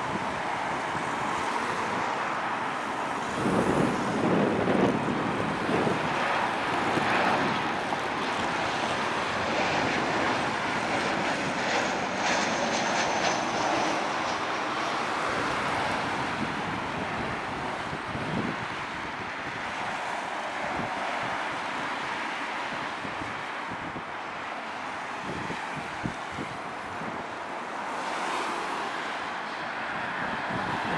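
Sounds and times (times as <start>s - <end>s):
jet engines rushing: 0.0s - 30.9s.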